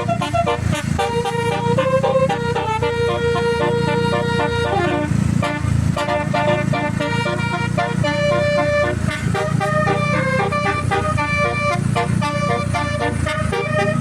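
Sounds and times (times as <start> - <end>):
multi-tone bus horn tune: 0.0 - 14.0.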